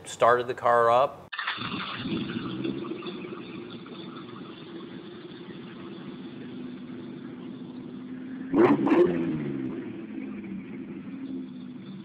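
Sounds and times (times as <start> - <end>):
car engine idling and revving: 1.4 - 12.0.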